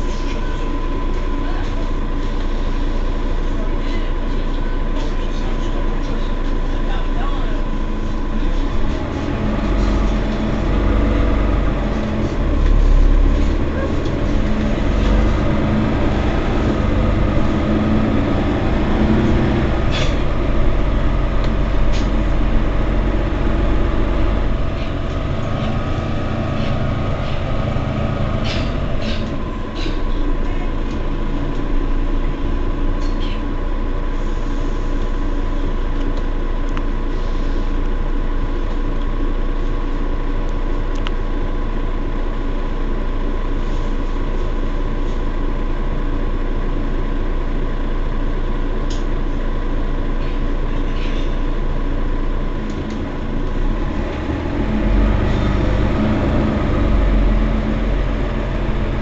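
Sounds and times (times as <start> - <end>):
bus engine humming: 0.0 - 59.0.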